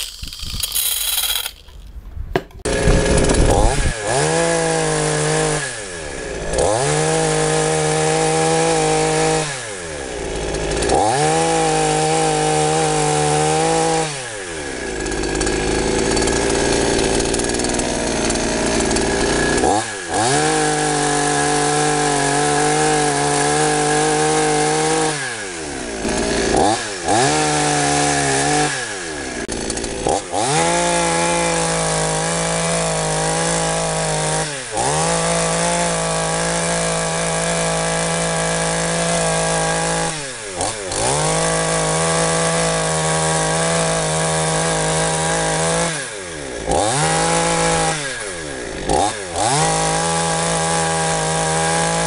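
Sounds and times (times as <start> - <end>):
chainsaw cutting log: 0.0 - 52.0.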